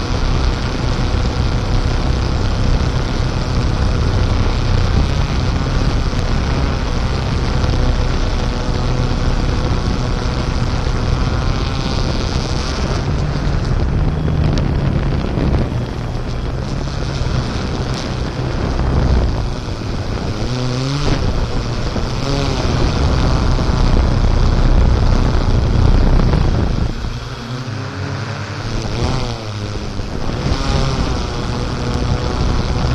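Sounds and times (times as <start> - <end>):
off-road vehicle engine revving: 0.0 - 32.9
wind buffeting microphone: 0.0 - 32.9.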